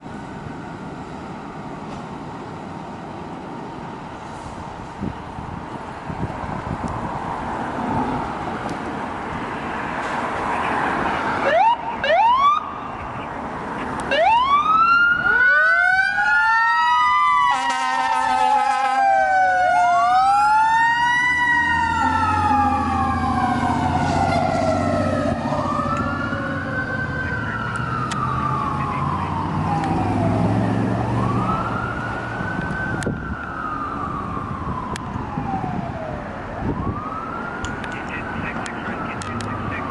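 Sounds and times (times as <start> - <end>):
fire engine sirens wailing: 0.0 - 39.9.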